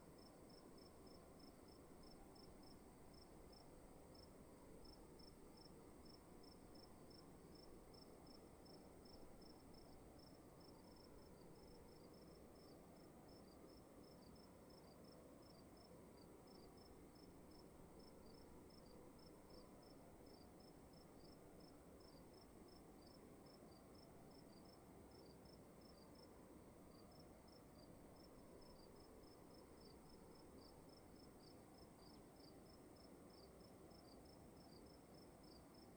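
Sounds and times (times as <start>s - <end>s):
crickets chirping: 0.1s - 35.9s.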